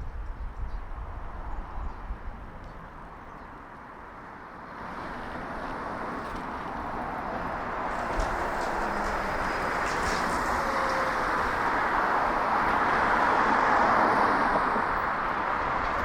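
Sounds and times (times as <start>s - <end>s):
wind rumble on microphone: 0.0s - 3.7s, 4.8s - 16.0s
traffic noise: 0.0s - 16.0s.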